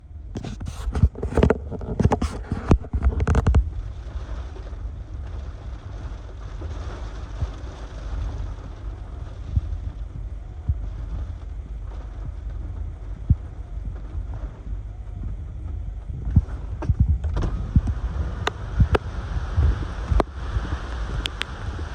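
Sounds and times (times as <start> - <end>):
strong wind buffeting microphone: 0.1 - 21.9.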